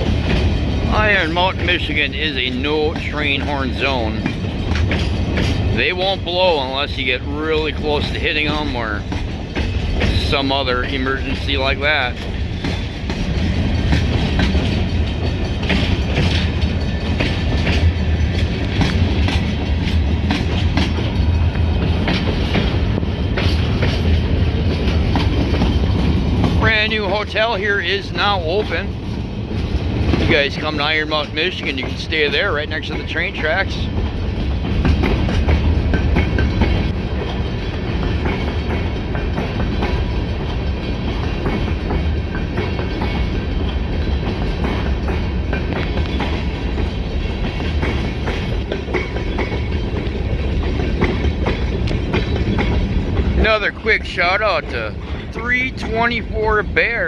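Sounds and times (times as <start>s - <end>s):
train rumbling past: 0.0s - 57.0s
train wheels clacking: 0.0s - 57.0s.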